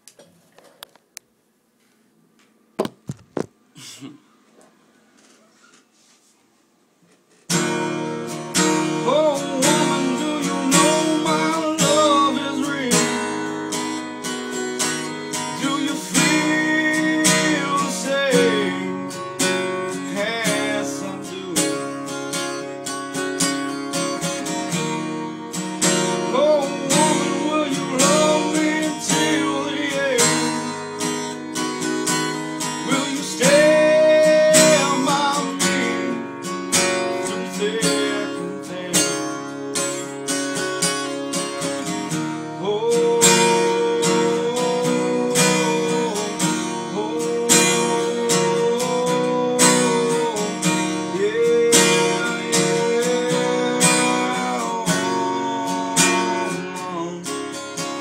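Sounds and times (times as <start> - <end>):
acoustic guitar strumming: 7.4 - 58.0.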